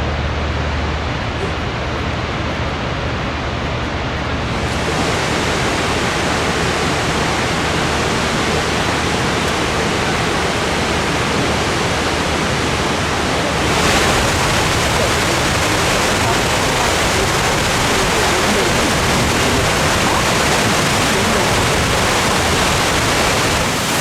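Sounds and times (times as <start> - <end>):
loud rushing noise: 4.3 - 24.0.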